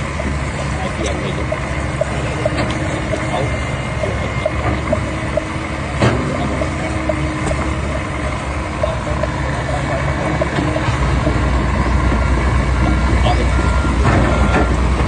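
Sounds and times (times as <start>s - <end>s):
low drone: 0.0s - 15.0s
machine engine running: 0.0s - 15.0s.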